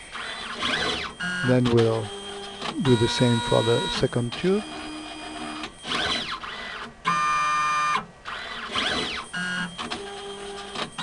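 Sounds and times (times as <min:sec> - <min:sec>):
robotic arm motors whining: 0:00.0 - 0:11.0.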